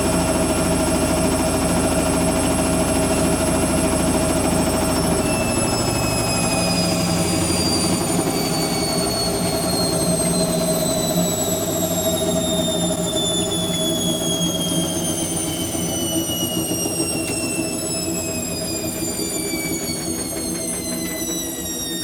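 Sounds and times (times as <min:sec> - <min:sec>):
washing machine motor whine: 0:00.0 - 0:22.0.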